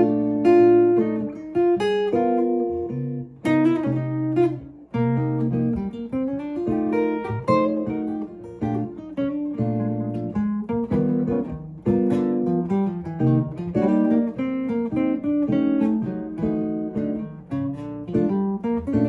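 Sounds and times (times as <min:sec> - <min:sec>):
acoustic guitar playing jazz: 0:00.0 - 0:19.0.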